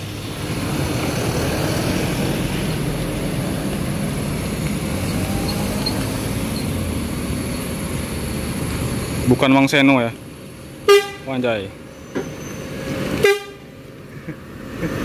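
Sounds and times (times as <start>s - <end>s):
bus diesel engine driving past: 0.0s - 15.0s.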